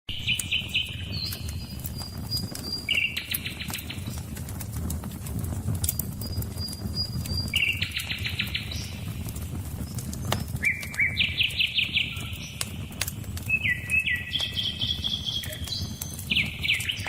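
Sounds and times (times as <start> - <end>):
bird trilling song: 0.1 - 4.2, 6.2 - 17.0
campfire crackling and popping: 0.1 - 17.0.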